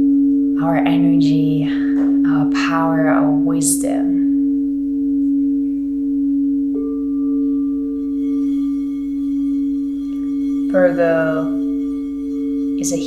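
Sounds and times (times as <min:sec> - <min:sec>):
higher singing bowl tone: 0:00.0 - 0:13.0
low singing bowl tone: 0:00.0 - 0:13.0.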